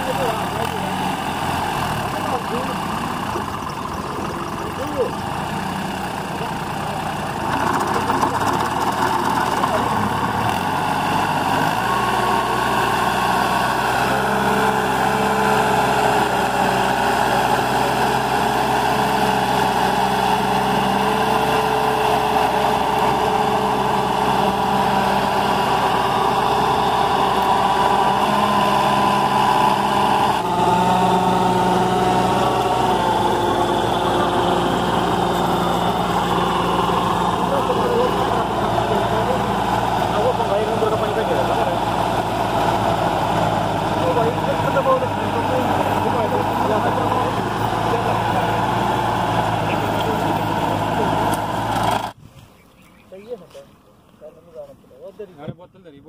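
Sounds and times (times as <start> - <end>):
tractor diesel engine running: 0.0 - 52.2.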